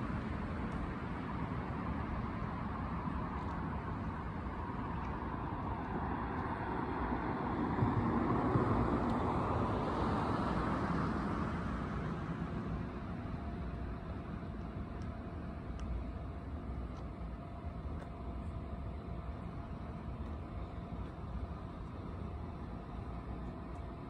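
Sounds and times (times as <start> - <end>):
steady traffic hum: 0.0 - 24.0.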